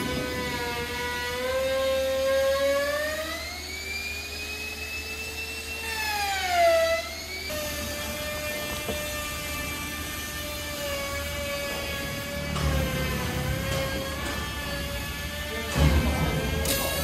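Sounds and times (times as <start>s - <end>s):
sawmill motor whining: 0.0s - 17.0s.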